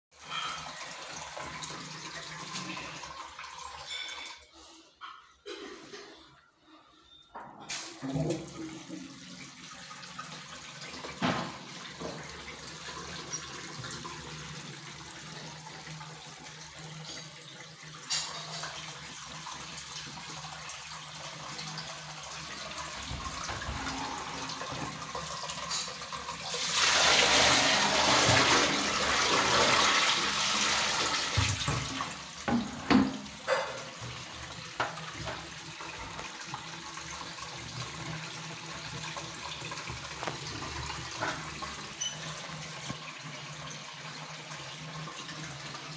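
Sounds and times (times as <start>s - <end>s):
water rushing into toilet drain: 7.7s - 45.9s.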